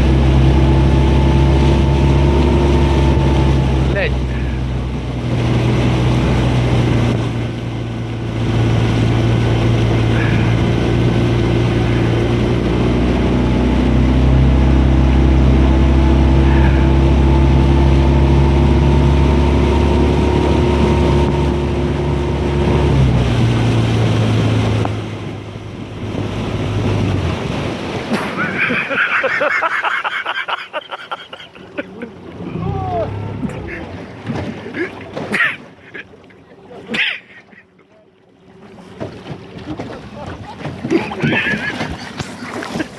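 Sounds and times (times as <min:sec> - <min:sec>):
motorboat engine running: 0:00.0 - 0:42.9
water noise: 0:00.0 - 0:42.9
wind: 0:00.0 - 0:42.9.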